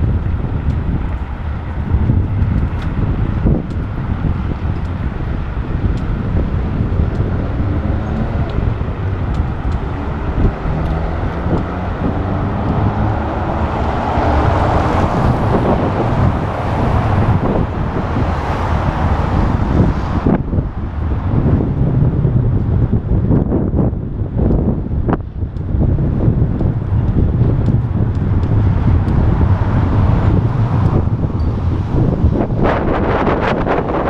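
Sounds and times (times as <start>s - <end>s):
road traffic: 0.0s - 34.0s
wind rumbling on microphone: 0.0s - 34.0s.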